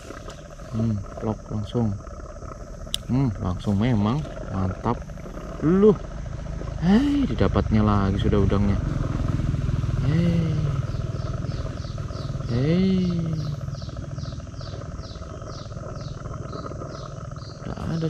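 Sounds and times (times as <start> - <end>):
engine rumble with rattle: 0.0 - 18.0.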